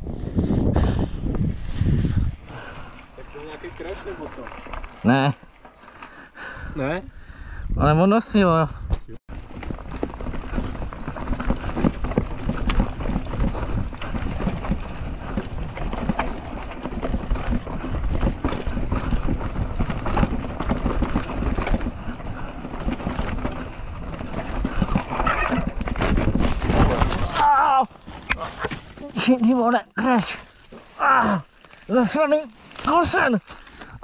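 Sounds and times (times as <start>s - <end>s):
mountain bike rattling: 0.0s - 7.3s, 9.3s - 34.0s.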